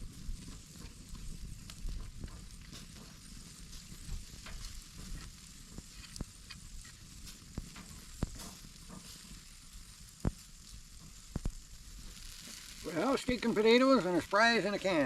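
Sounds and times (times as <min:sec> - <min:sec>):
campfire crackles: 0:00.0 - 0:15.0
steak sizzling in a pan: 0:00.0 - 0:15.0.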